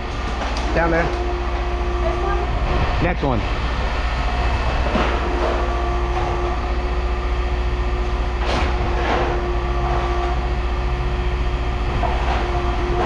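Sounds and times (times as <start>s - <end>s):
machine droning hum: 0.0s - 13.0s.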